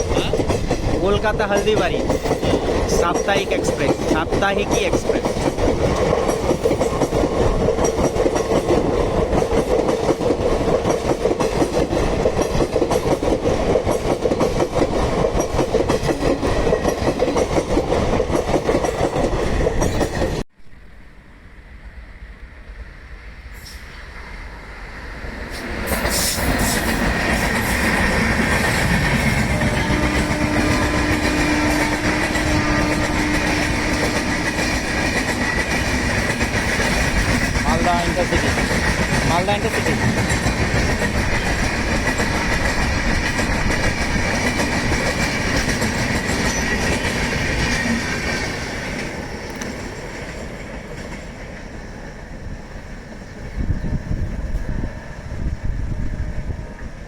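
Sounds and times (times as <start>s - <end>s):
train wheels clattering over rails: 0.0s - 20.4s, 25.5s - 51.7s
train rumble: 0.0s - 20.5s, 21.2s - 57.0s.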